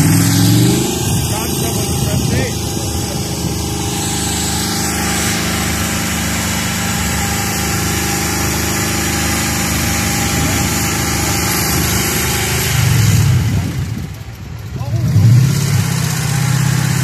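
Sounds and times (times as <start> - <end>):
buggy engine idling: 0.0 - 17.0.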